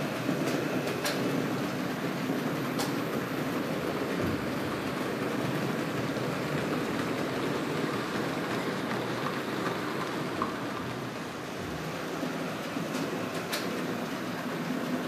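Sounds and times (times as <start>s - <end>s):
model train wagons rolling on rails: 0.0s - 15.0s.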